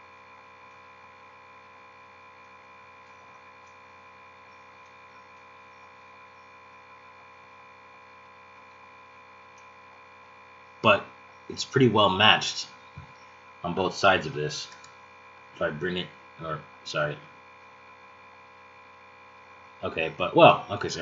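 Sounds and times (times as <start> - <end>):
electrical hum: 0.0 - 21.0
faint high whine: 0.0 - 21.0.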